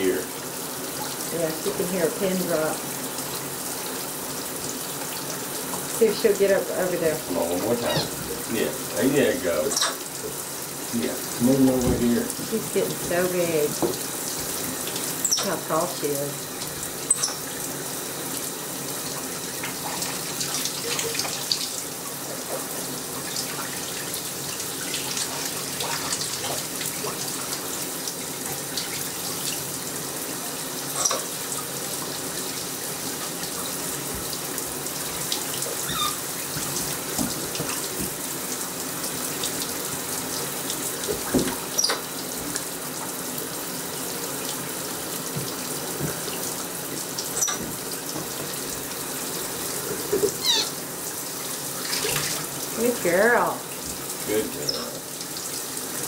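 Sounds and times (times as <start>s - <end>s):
shower spray running into tub: 0.0s - 56.0s.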